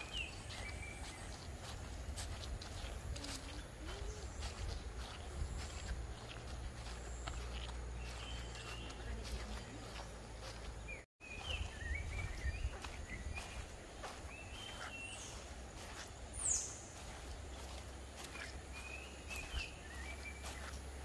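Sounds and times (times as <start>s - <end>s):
birds chirping and warbling: 0.0s - 21.0s.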